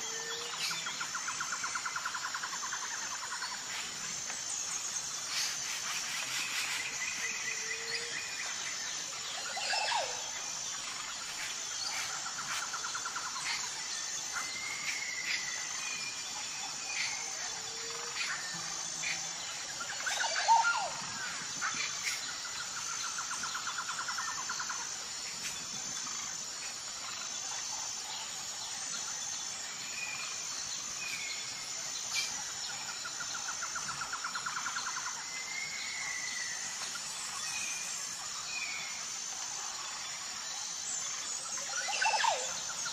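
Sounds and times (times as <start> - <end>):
high insect chorus: 0.0 - 42.9
repeating insect chirp: 0.0 - 42.9.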